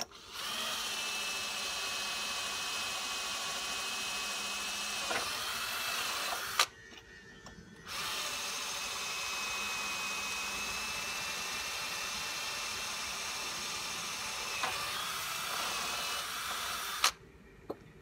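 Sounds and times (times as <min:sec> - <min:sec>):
cordless drill whining: 0:00.0 - 0:17.2.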